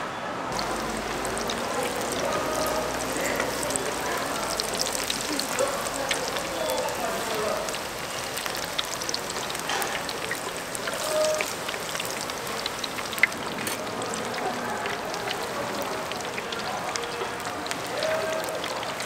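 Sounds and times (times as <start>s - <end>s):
food sizzling in hot oil: 0.5s - 19.0s.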